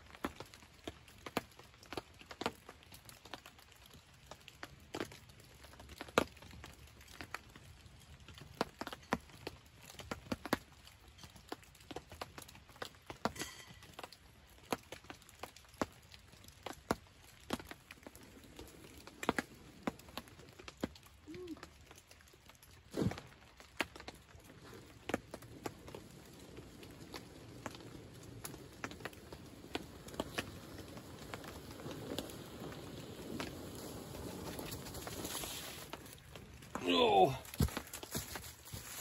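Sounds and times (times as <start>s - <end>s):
raindrops tapping on a tarp: 0.0s - 39.0s.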